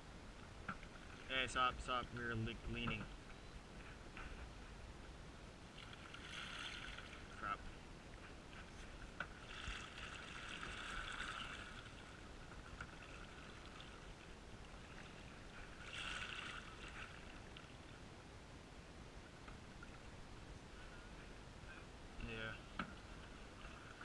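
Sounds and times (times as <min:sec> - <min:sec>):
faint steady hiss: 0:00.0 - 0:24.0
paddle strokes swishing water: 0:00.2 - 0:18.2, 0:22.6 - 0:24.0.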